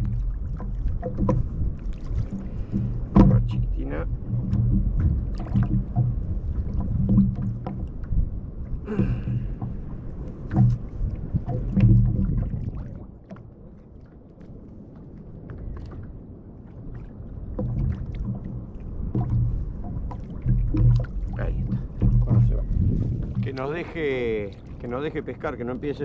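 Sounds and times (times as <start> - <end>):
water slapping against kayak hull: 0.0 - 26.0.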